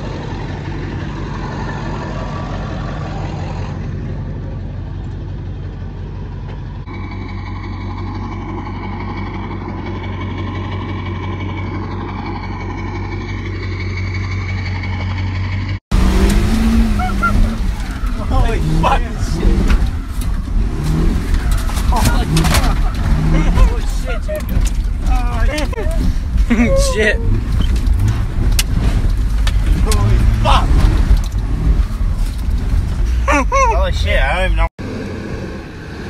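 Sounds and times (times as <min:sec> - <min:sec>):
diesel truck engine running: 0:00.0 - 0:36.0.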